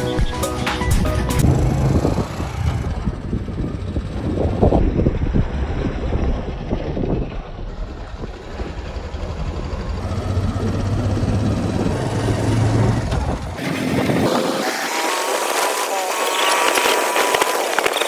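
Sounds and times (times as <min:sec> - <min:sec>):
road noise: 0:00.0 - 0:18.0
vehicle engine hum: 0:00.0 - 0:18.0.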